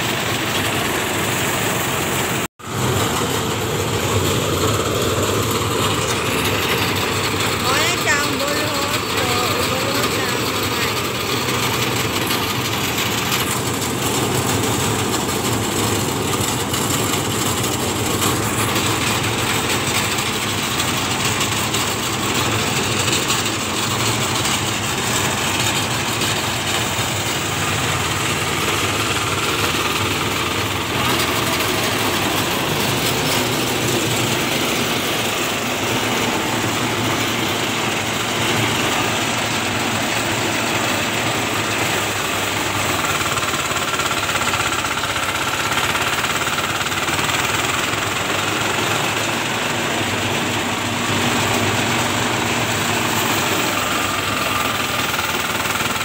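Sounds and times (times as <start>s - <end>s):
rice thresher engine running: 0.0s - 56.0s.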